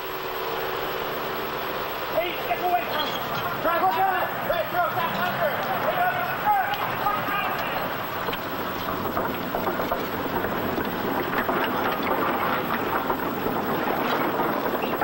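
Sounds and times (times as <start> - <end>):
rattle and clatter of loose steel: 1.6 - 15.0.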